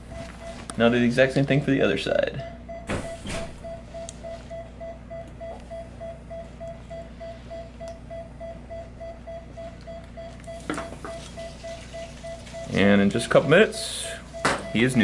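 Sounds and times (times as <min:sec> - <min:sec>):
monitor beeping: 0:00.0 - 0:00.9, 0:02.4 - 0:15.0
low steady hum: 0:00.0 - 0:15.0.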